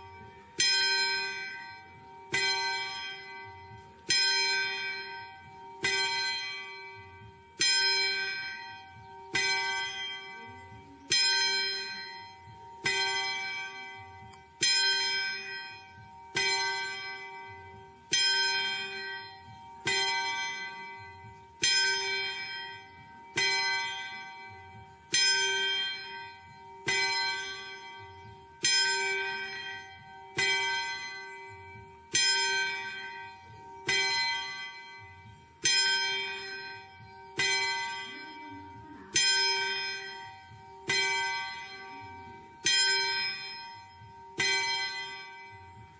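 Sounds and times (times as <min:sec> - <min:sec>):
church bell tolling: 0:00.0 - 0:45.9.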